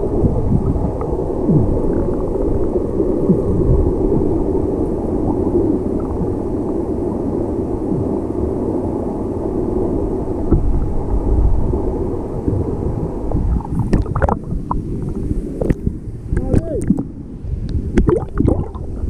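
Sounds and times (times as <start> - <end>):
muffled waterfall rumble underwater: 0.0 - 19.0.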